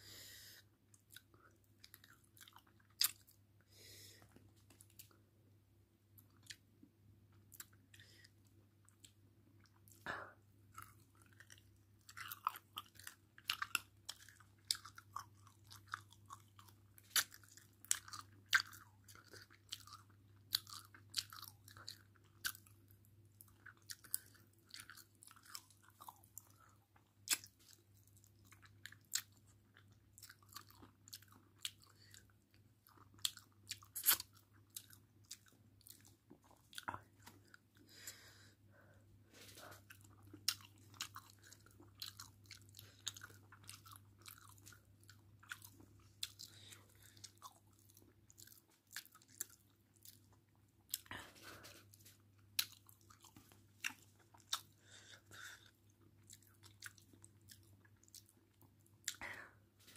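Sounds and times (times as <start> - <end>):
wet chewing and smacking: 0.8 - 3.5, 6.1 - 10.0, 10.7 - 37.9, 39.6 - 59.3.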